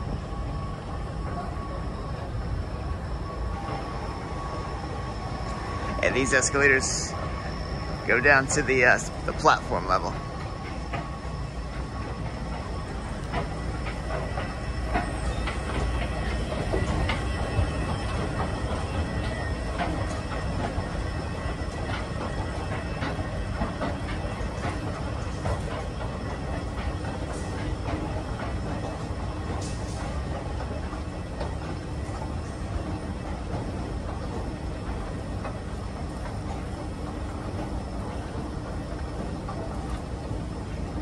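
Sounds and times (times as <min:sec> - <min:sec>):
escalator mechanical rumble: 0:00.0 - 0:41.0
escalator steps clicking: 0:03.6 - 0:41.0.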